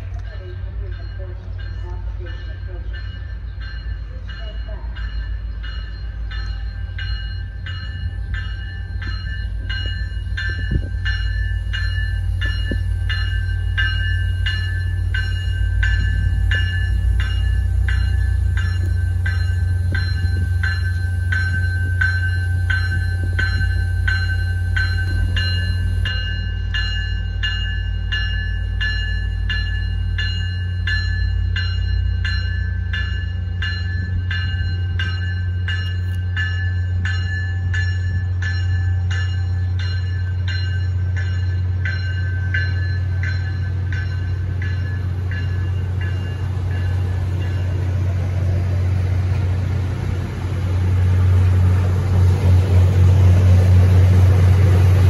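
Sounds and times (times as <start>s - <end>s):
diesel locomotive droning: 0.0s - 55.0s
locomotive bell ringing: 0.0s - 55.0s.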